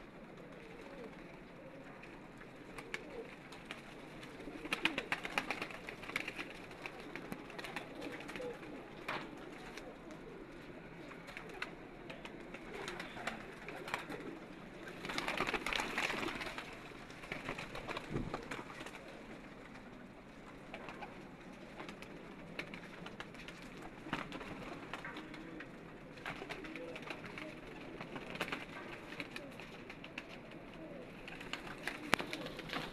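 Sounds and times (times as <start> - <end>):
pigeons cooing: 0.0 - 32.9.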